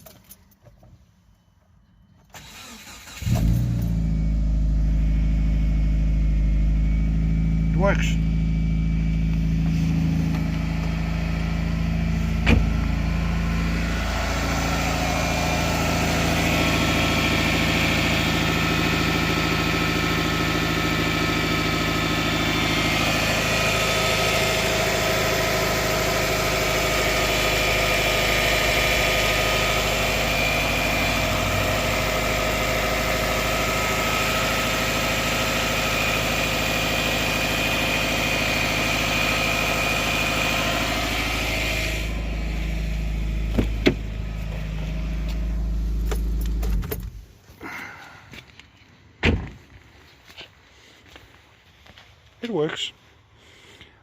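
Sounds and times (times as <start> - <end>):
car engine idling: 2.4 - 50.3.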